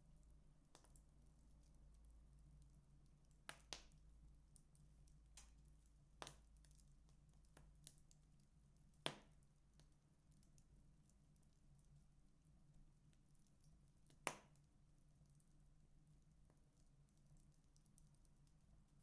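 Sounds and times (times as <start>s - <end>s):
wood fire crackling: 0.1s - 19.0s.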